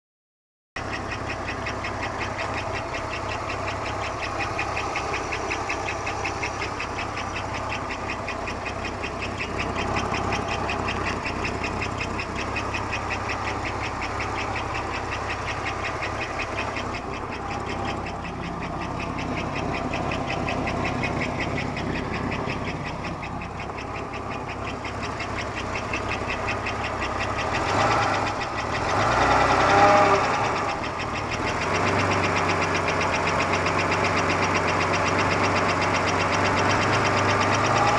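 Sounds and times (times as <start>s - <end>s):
car engine running: 0.8s - 37.9s
fast rhythmic engine noise: 0.8s - 37.9s.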